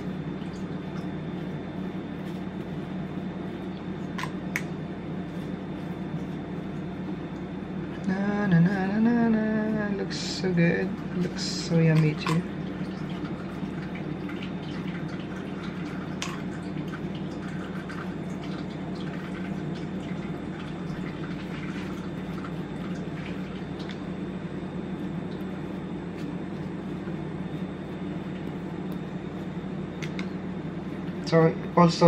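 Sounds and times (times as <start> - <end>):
low kitchen hum: 0.0 - 32.0.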